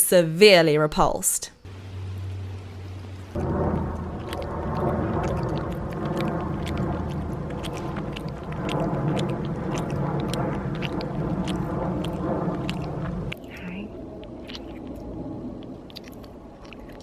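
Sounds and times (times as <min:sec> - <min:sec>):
fruit bat chewing fruit: 0:03.3 - 0:17.0.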